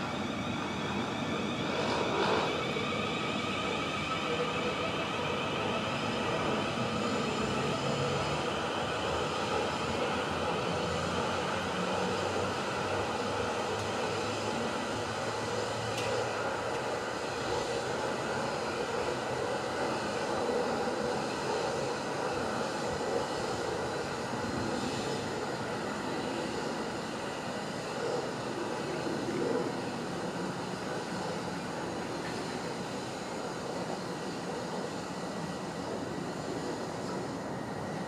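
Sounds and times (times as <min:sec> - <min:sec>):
train wheels on rail: 0:00.0 - 0:38.0.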